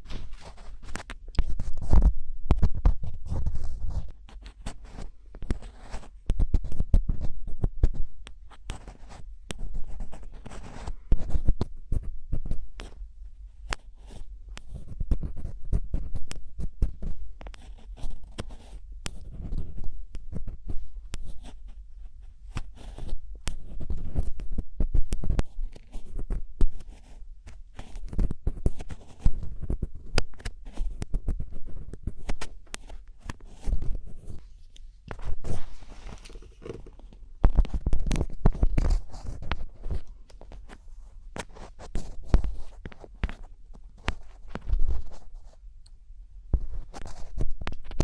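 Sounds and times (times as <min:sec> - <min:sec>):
scratching and scraping at microphone: 0:00.0 - 0:45.7, 0:46.5 - 0:48.0.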